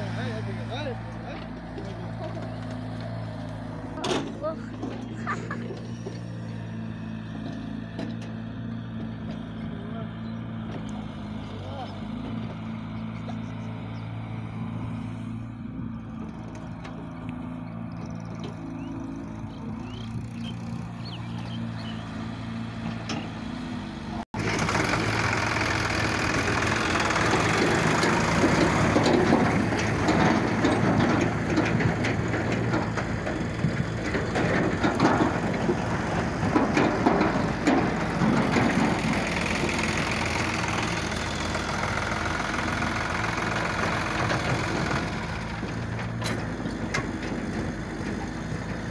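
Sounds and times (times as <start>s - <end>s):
trailer rattling: 0.0s - 15.3s, 15.9s - 48.9s
tractor engine drone: 0.0s - 48.9s
wheels crunching on ground: 0.0s - 48.9s.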